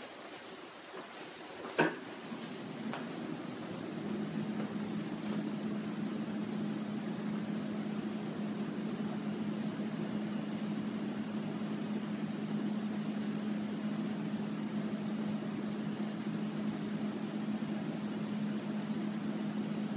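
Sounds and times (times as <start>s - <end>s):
mechanical hum: 0.0s - 19.9s.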